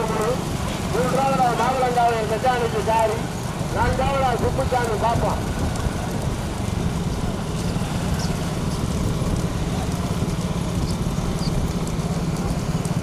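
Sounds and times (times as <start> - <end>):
hooves clattering: 0.0 - 13.0
vehicle engine throbbing: 0.0 - 13.0.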